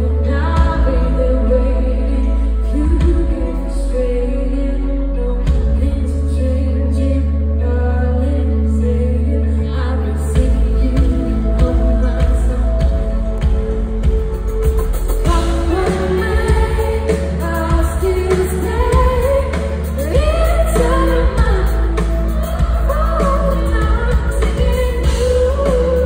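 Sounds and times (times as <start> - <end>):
woman singing: 0.0 - 14.4, 15.1 - 26.0
live pop band: 0.0 - 26.0.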